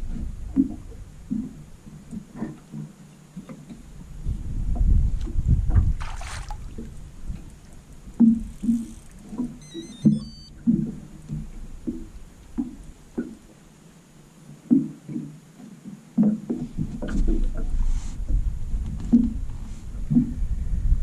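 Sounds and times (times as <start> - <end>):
water slapping boat hull: 0.0 - 9.6, 10.6 - 13.8, 14.5 - 20.4.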